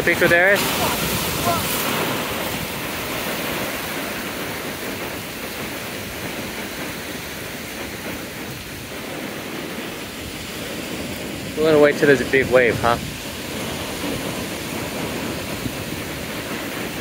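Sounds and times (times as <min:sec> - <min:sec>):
surf washing over rocks: 0:00.0 - 0:17.0.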